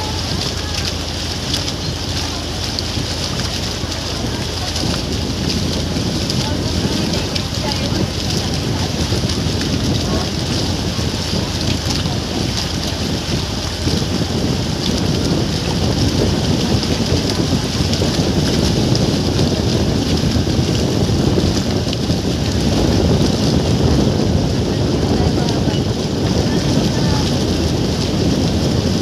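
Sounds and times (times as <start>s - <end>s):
water noise from boat: 0.0s - 29.0s
wind buffeting microphone: 0.0s - 29.0s.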